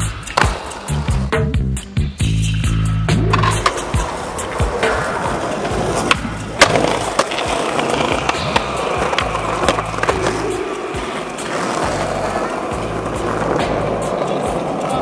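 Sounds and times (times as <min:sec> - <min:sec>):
skateboard clacks: 0:00.0 - 0:01.3, 0:03.1 - 0:15.0
skateboard wheels rolling on pavement: 0:00.0 - 0:01.3, 0:02.7 - 0:15.0
music with steady bass line: 0:00.0 - 0:14.2.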